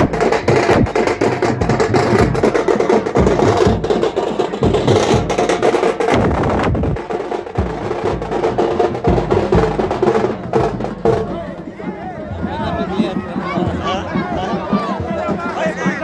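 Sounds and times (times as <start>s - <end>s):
drums beaten loudly: 0.0s - 16.0s.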